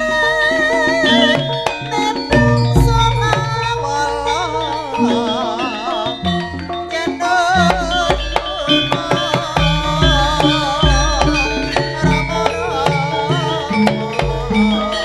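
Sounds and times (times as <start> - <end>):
pitched metallic notes: 0.0 - 15.0
wavering high melody: 0.0 - 15.0.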